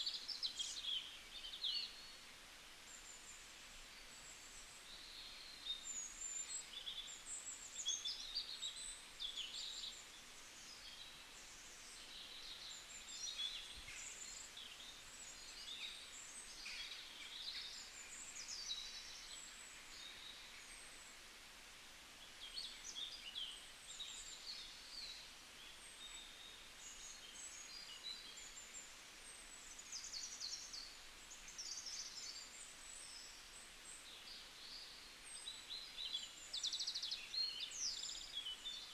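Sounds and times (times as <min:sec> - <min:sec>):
faint steady hiss: 0:00.0 - 0:38.9
songbirds chirping and trilling: 0:00.0 - 0:38.9.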